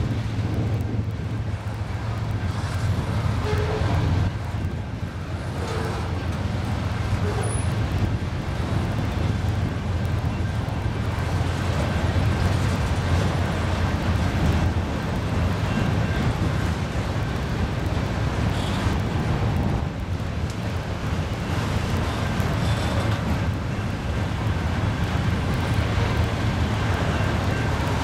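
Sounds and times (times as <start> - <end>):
freight train rumbling on rails: 0.0 - 28.0.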